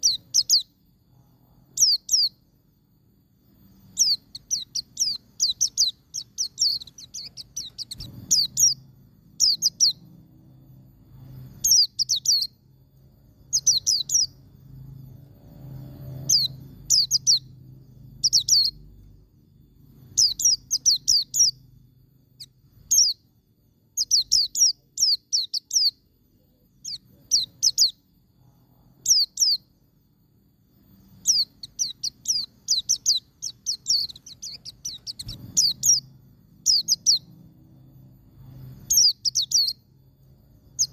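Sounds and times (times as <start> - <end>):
white-eye bird singing: 0.0 - 40.9.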